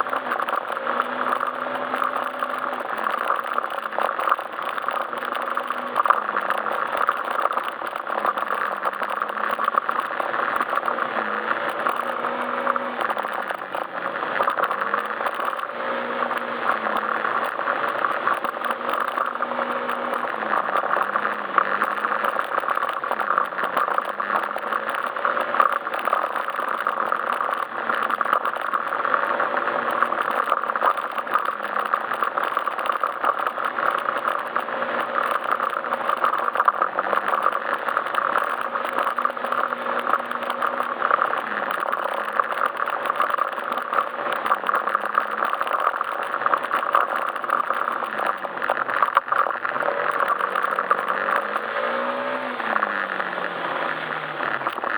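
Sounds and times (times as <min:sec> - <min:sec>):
road and wind noise: 0:00.0 - 0:54.9
scooter engine running: 0:00.0 - 0:54.9.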